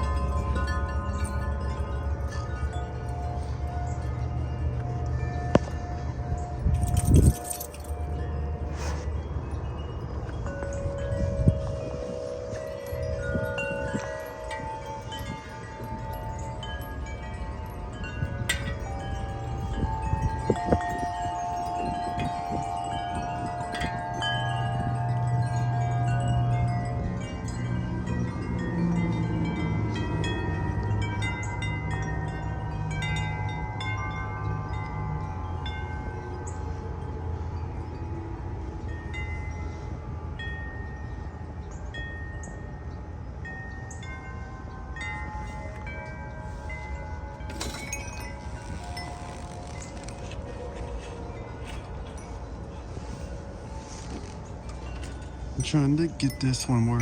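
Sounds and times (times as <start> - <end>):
metal wind chimes ringing: 0.0 - 57.0
wind rumble on microphone: 0.0 - 57.0.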